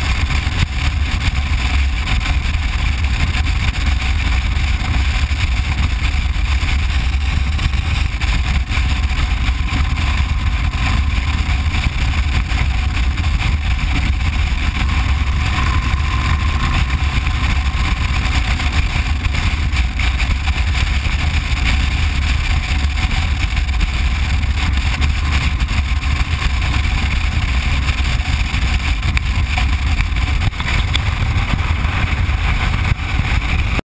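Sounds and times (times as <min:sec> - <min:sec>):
motorcycle engine drone: 0:00.0 - 0:33.8
wind rushing on microphone: 0:00.0 - 0:33.8.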